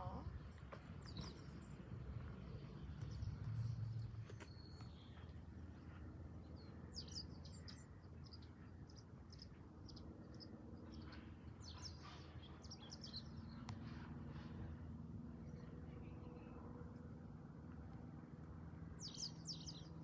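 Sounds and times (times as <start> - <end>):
faint birds chirping: 0.0 - 17.3
low steady hum: 0.0 - 20.0.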